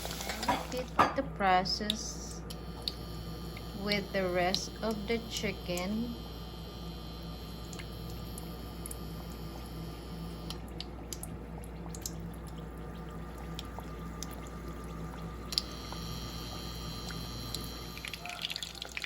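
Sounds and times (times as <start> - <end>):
food frying in hot oil: 0.0 - 1.0, 3.0 - 19.0.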